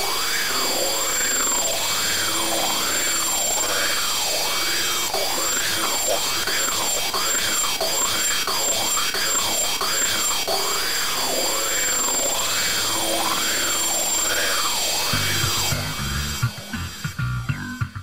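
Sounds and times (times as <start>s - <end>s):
loud steady hiss: 0.0s - 17.8s.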